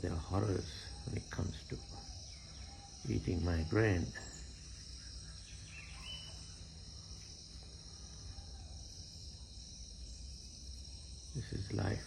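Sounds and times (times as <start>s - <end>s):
faint chirp: 0.0s - 12.0s
insect chorus: 0.0s - 12.0s.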